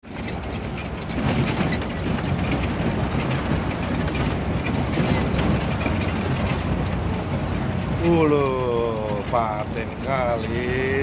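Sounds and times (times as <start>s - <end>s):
bus engine rumble: 0.0s - 11.0s
faint rattles and clicks: 0.0s - 11.0s.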